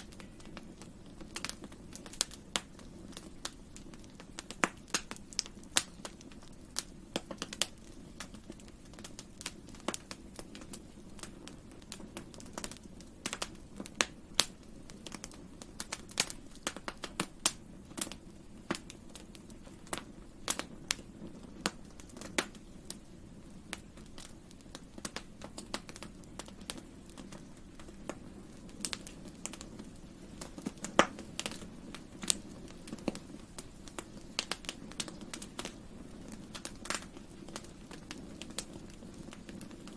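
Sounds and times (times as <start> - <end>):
campfire crackling and popping: 0.0 - 39.9
flames burning: 0.0 - 39.9.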